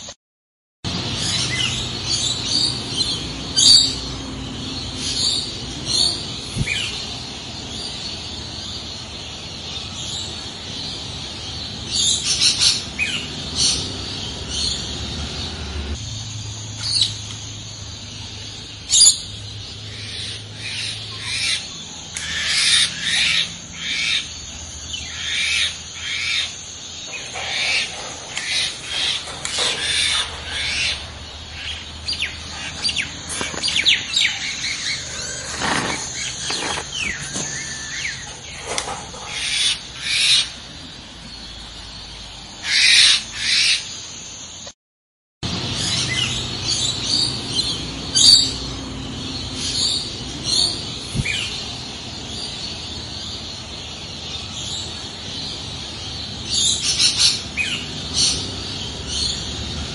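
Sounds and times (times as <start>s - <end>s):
birds chirping and squawking: 0.9s - 44.6s, 45.4s - 59.9s.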